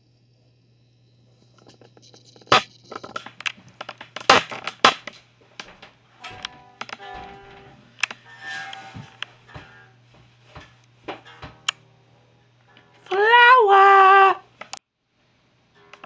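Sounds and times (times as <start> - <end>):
steady held tones: 0.9 - 14.6.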